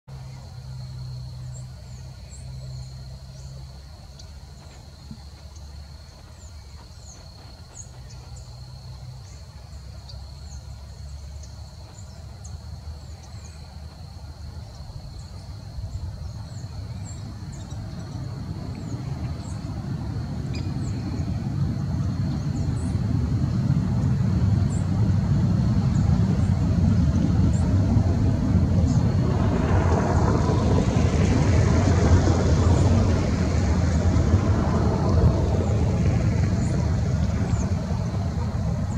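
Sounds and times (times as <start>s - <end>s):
motor vehicle rumble passing: 0.1s - 38.9s.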